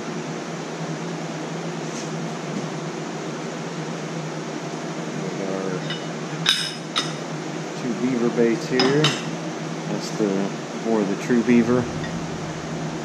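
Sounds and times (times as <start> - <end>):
air conditioning and fans humming: 0.0 - 13.0.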